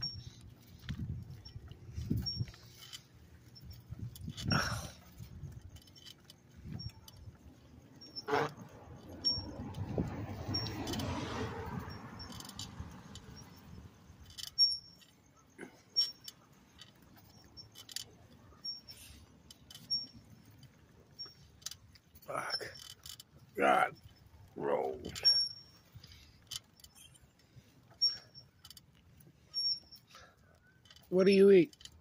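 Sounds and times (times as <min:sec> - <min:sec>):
bicycle clicks and rattles: 0:00.0 - 0:32.0
road and wind noise: 0:00.0 - 0:32.0.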